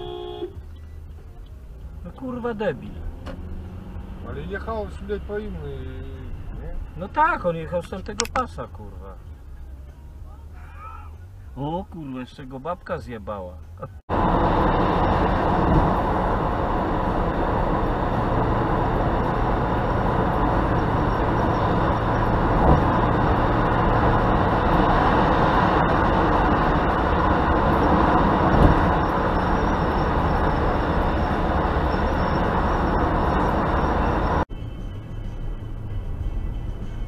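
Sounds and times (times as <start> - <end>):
car road and wind noise: 0.0 - 37.0.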